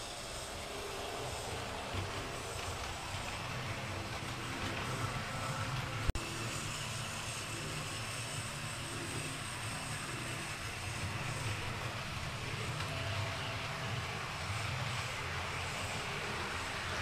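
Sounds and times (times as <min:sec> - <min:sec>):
model train motors humming: 0:00.0 - 0:17.0
wheels rolling on track: 0:00.0 - 0:17.0.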